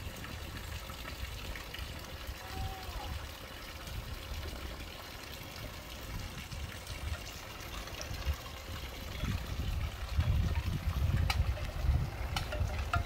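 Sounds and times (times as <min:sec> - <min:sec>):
low uneven rumble: 0:00.0 - 0:13.0
pool water trickling: 0:00.0 - 0:13.0.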